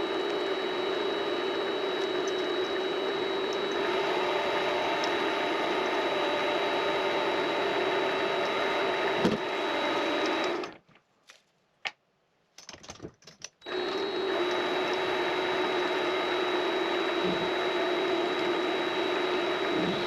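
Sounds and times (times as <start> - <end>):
lathe whining: 0.0 - 10.8, 13.6 - 20.0.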